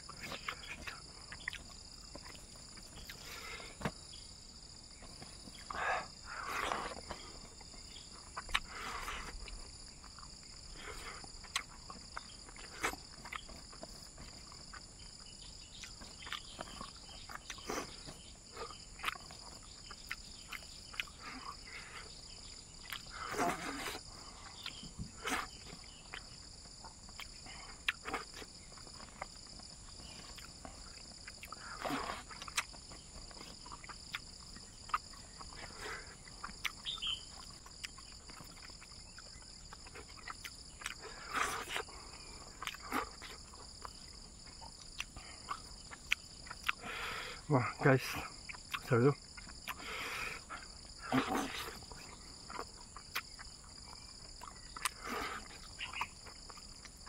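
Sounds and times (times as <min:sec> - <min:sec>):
wet chewing and lip smacks: 0:00.0 - 0:03.9, 0:06.4 - 0:47.4, 0:48.0 - 0:57.0
high-pitched insect chorus: 0:00.0 - 0:57.0.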